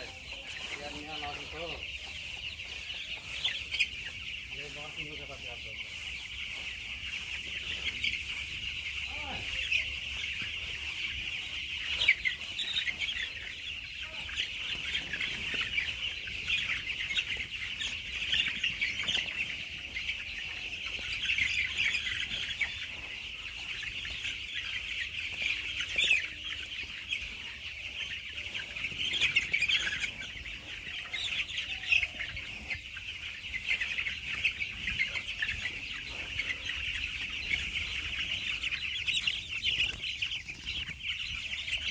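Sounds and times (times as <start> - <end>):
chickens calling: 0.0 - 41.9.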